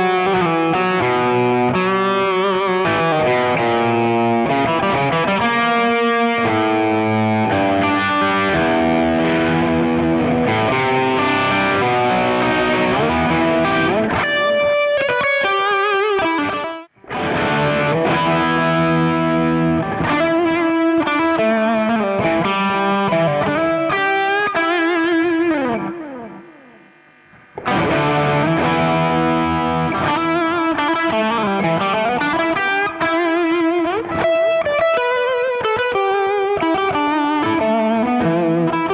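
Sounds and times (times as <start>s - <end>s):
overdriven electric guitar: 0.0s - 38.9s.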